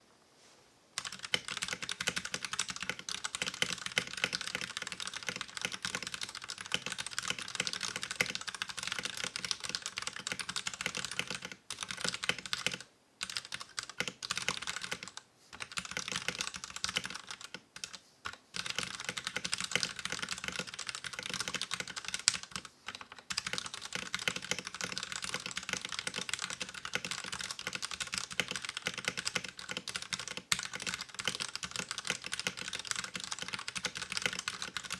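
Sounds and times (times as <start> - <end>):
fast typing on mechanical keyboard: 1.0 - 34.9.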